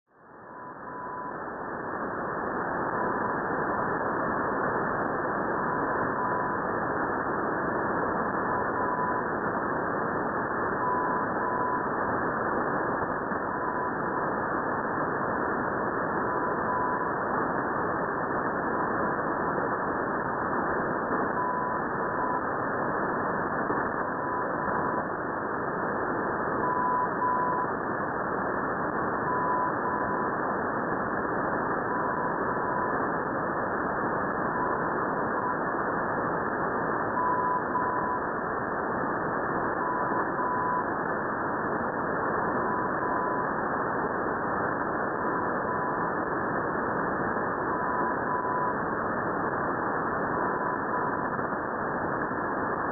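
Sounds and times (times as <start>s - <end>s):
radio static hiss: 0.1s - 52.9s.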